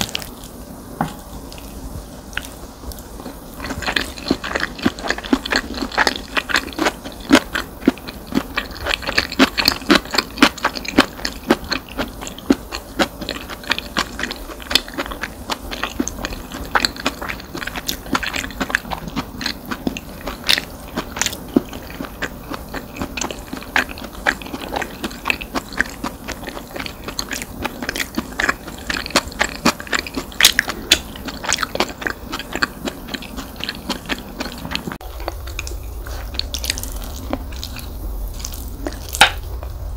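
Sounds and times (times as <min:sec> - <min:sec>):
wet chewing and crunching: 0:01.5 - 0:39.9.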